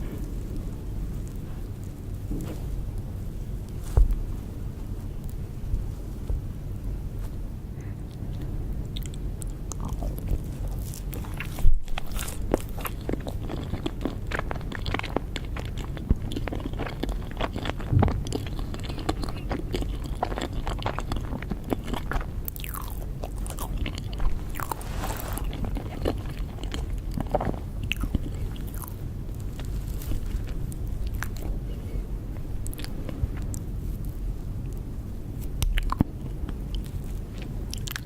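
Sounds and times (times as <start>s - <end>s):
person chewing cake: 0.0s - 38.0s.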